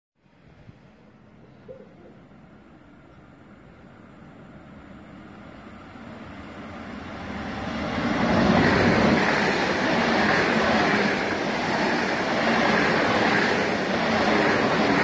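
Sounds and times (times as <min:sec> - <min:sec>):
high-speed train rushing past: 0:02.3 - 0:15.0.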